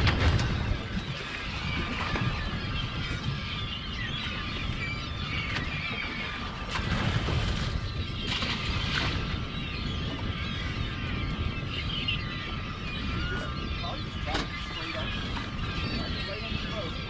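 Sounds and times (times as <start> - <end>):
seabirds calling: 0.0 - 17.0
wind buffeting microphone: 0.0 - 17.0.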